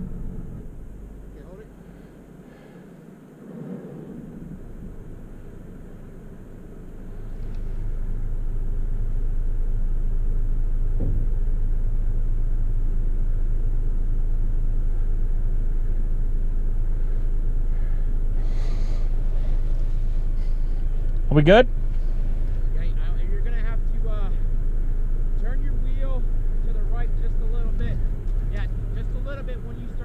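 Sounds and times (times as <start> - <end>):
car engine drone inside cabin: 0.0 - 30.0.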